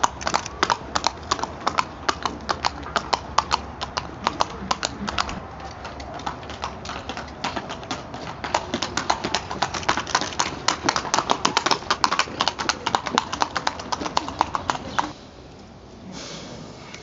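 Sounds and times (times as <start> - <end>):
hooves clip-clopping on pavement: 0.0 - 15.2.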